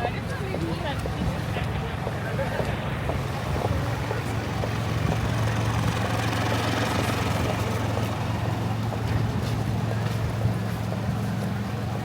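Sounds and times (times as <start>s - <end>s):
city street traffic: 0.0s - 12.0s
vehicle engine idling: 0.0s - 12.0s.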